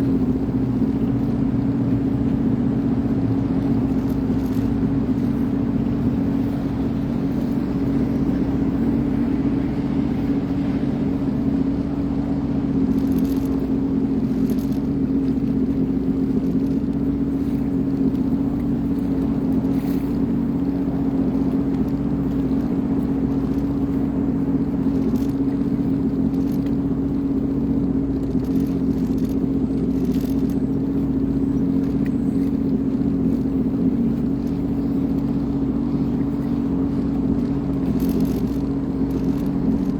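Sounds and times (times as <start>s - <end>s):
personal watercraft engine humming: 0.0s - 39.9s.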